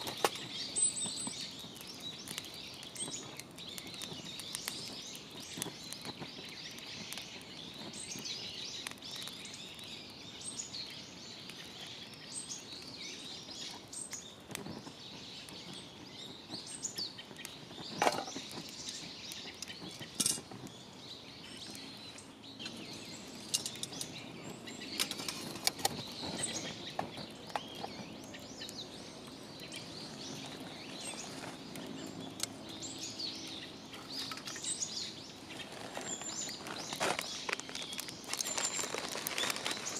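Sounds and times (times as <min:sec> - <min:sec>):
small birds chirping: 0:00.0 - 0:39.9
steady outdoor hiss: 0:00.0 - 0:39.9.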